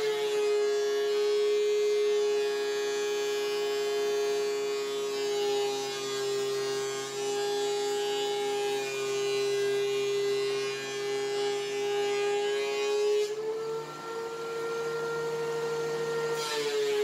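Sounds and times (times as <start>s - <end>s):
planer cutting wood hiss: 0.0s - 17.0s
thickness planer motor whine: 0.0s - 17.0s.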